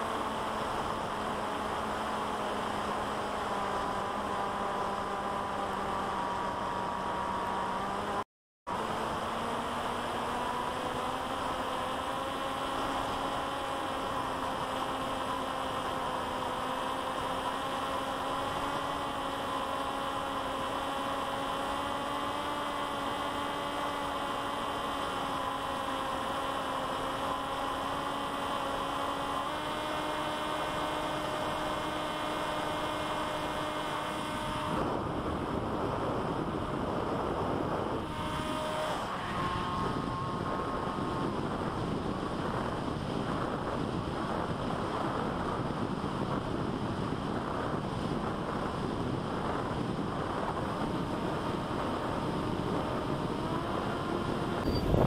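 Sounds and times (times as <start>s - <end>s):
electric motor propeller humming: 0.0s - 8.2s, 8.8s - 55.0s.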